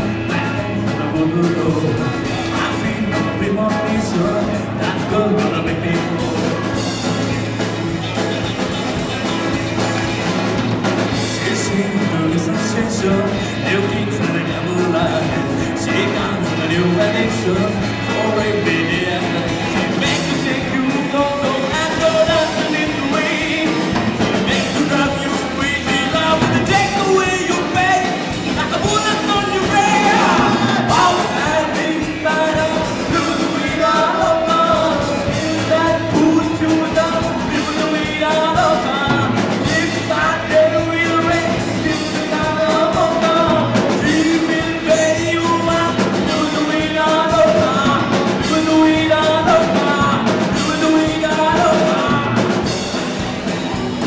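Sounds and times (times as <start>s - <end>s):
drum kit: 0.0s - 54.0s
electric guitars: 0.0s - 54.0s
person singing: 0.0s - 54.0s.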